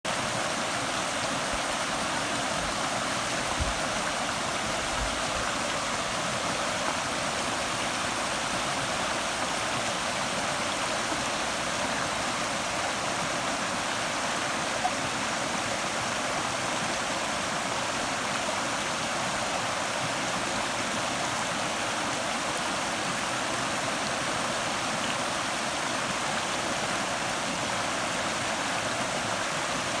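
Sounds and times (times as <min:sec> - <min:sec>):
stream babbling over stones: 0:00.1 - 0:30.0.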